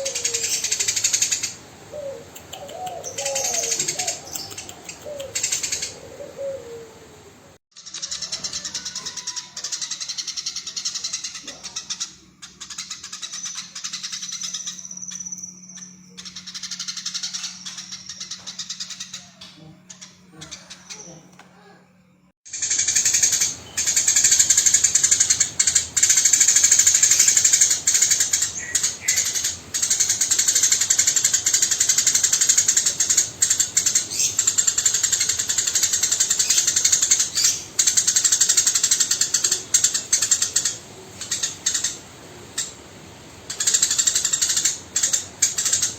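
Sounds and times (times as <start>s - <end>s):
low steady hum: 0.0s - 7.6s, 8.6s - 45.9s
sparrow chirping: 0.0s - 21.2s, 22.5s - 45.9s.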